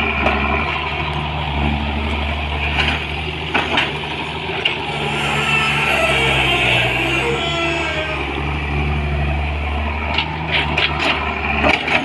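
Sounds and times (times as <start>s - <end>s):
excavator diesel engine under load: 0.0s - 12.0s.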